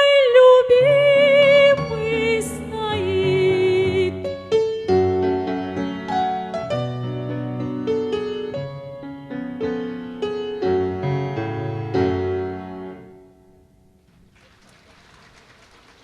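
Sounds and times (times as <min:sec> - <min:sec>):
piano playing chords: 0:00.5 - 0:14.3.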